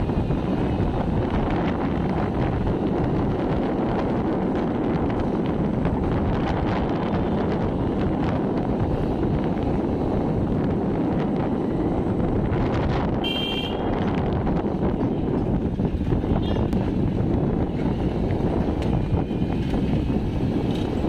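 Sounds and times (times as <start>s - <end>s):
road vehicle rumble: 0.0s - 21.0s
wind buffeting microphone: 0.0s - 21.0s.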